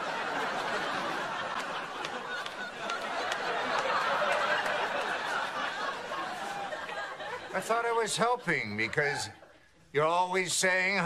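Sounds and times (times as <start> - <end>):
studio audience laughing: 0.0 - 9.7.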